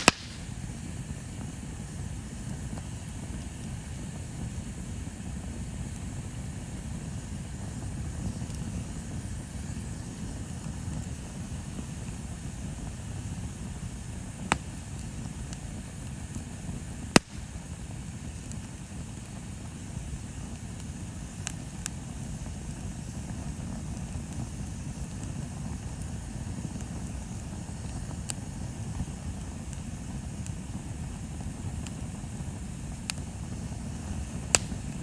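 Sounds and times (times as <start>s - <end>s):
bonfire burning rumble: 0.0s - 35.0s
burning wood popping: 0.0s - 35.0s.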